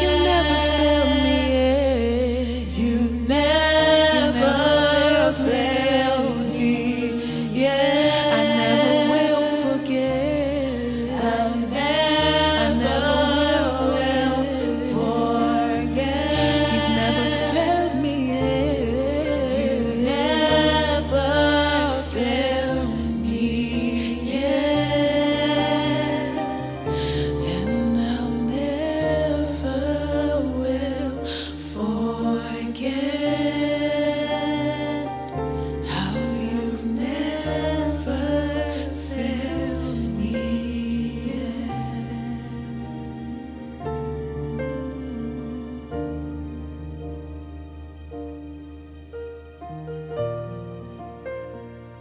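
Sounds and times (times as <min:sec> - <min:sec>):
voices singing long notes: 0:00.0 - 0:46.9
low accompaniment notes: 0:00.0 - 0:52.0.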